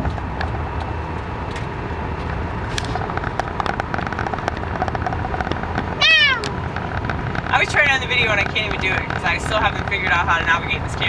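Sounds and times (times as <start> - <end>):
car road rumble inside cabin: 0.0 - 11.0
turn signal ticking: 0.0 - 11.0.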